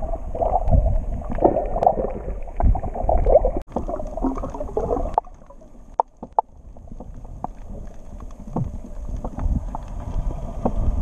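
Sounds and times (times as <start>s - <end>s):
low underwater rumble: 0.0s - 11.0s
clicks and pops: 0.4s - 9.9s.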